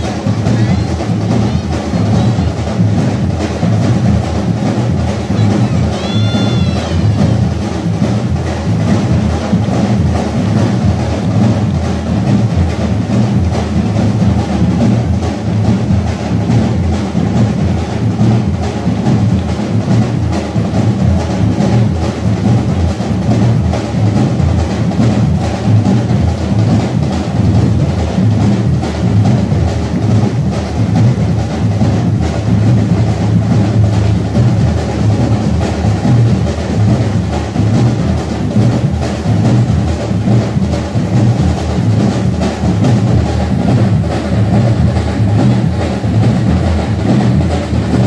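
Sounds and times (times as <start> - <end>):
drum-led folk parade music: 0.0 - 48.0.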